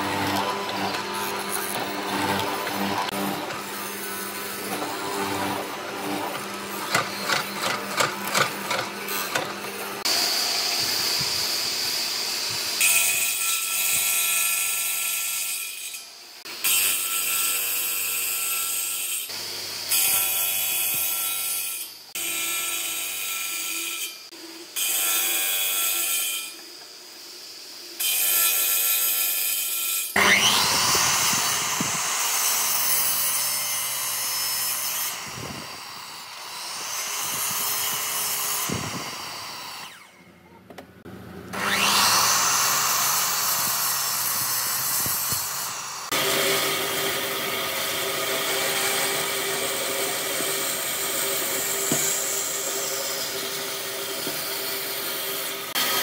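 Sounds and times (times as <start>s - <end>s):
circular saw cutting wood: 0.0s - 40.4s, 41.1s - 56.0s
miter saw whine and cut: 0.0s - 40.4s, 41.4s - 56.0s.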